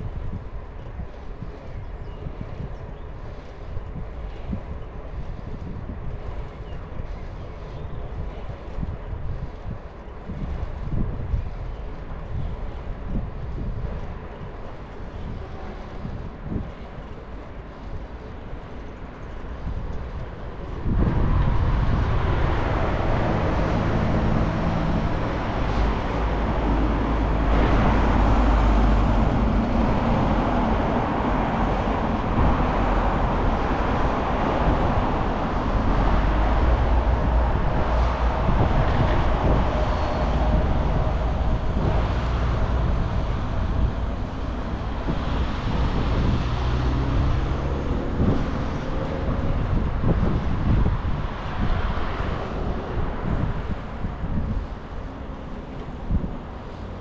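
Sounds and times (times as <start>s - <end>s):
bicycle rolling noise: 0.0s - 57.0s
wind buffeting microphone: 0.0s - 57.0s.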